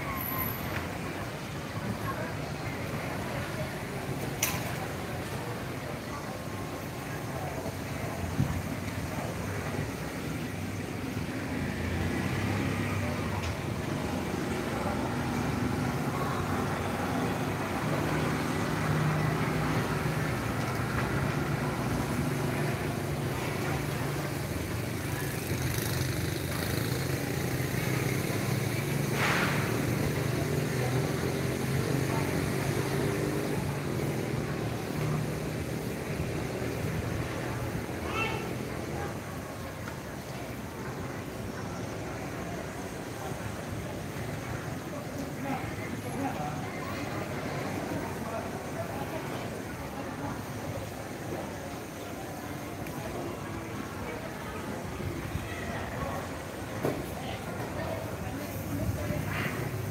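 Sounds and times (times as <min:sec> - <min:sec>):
motorbikes: 0:00.0 - 0:59.9
street traffic: 0:00.0 - 0:59.9.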